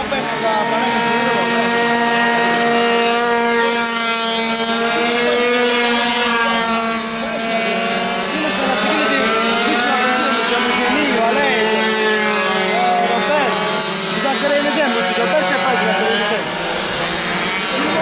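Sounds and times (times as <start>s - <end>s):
small engines whining: 0.0s - 18.0s.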